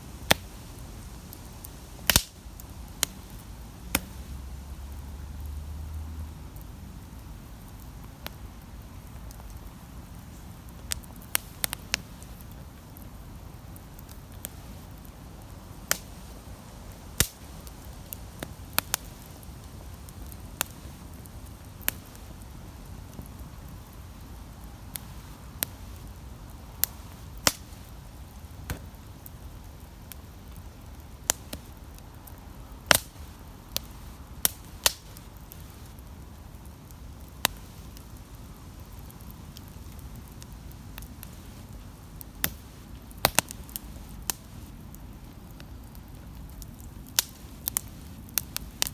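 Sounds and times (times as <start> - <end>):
low steady fire rumble: 0.0 - 48.9
campfire pops and snaps: 0.1 - 48.9.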